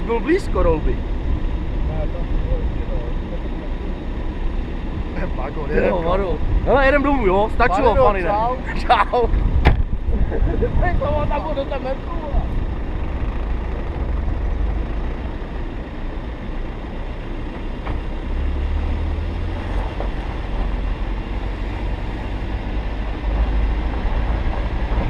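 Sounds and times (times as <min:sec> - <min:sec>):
car engine drone: 0:00.0 - 0:25.0.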